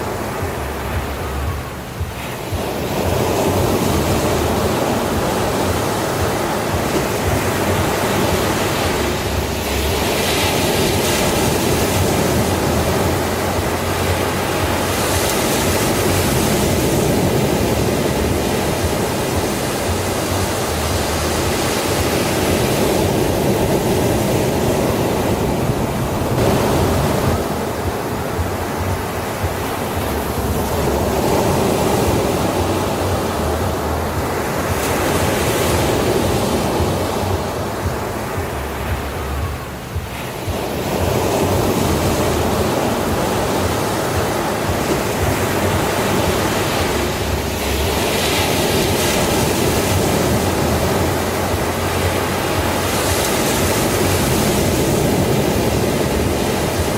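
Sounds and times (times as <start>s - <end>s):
sea waves breaking on beach: 0.0s - 56.9s.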